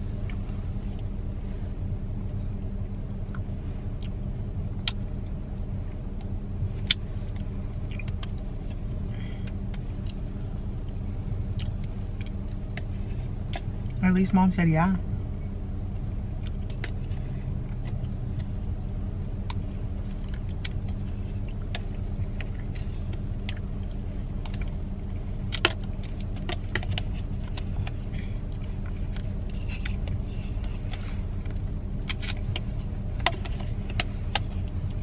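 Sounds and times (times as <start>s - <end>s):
car engine rumble: 0.0s - 35.0s
road noise: 0.0s - 35.0s.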